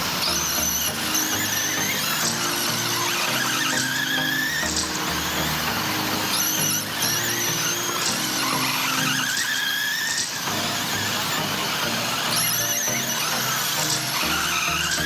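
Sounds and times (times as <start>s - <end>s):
background music: 0.0s - 15.0s
rc truck motors whining: 0.0s - 15.0s.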